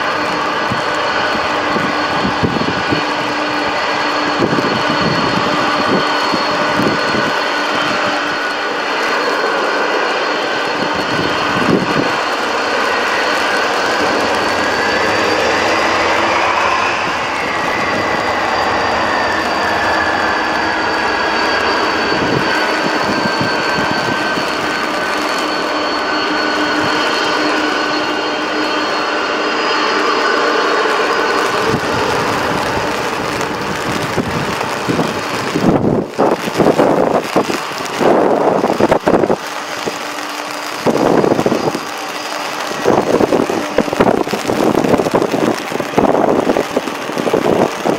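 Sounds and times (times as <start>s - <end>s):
jet engines whining: 0.0s - 47.9s.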